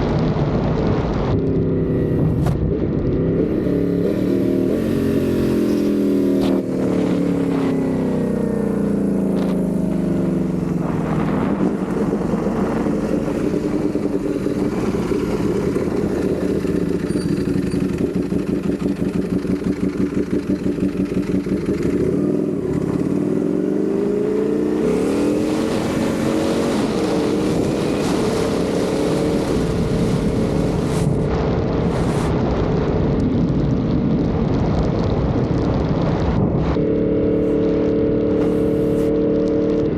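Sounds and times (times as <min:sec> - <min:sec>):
motorcycle engine: 0:00.7 - 0:34.4, 0:35.4 - 0:39.9.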